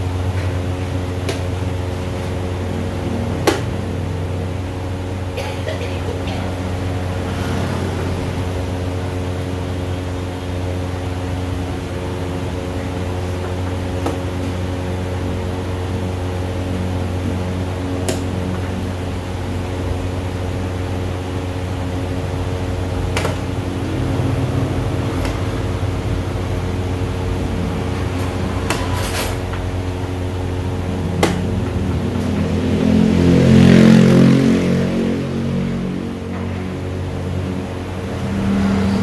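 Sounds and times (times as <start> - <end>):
machine hum: 0.0 - 39.0.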